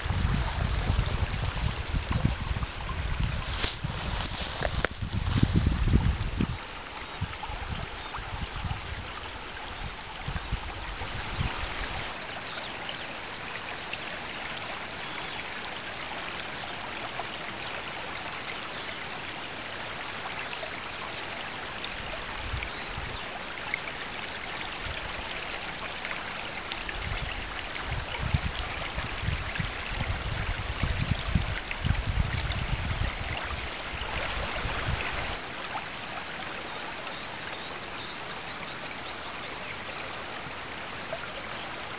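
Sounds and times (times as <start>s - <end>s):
stream over small waterfall: 0.0s - 41.9s.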